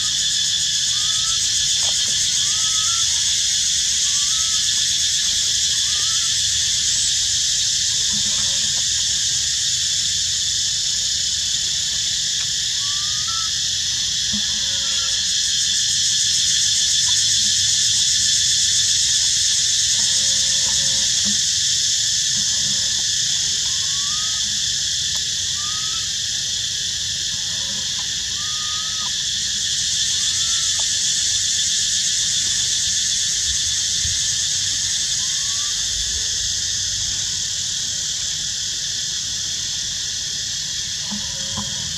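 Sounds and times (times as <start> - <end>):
faint chirping calls: 0.0 - 9.4, 11.7 - 37.8
insects droning: 0.0 - 41.9.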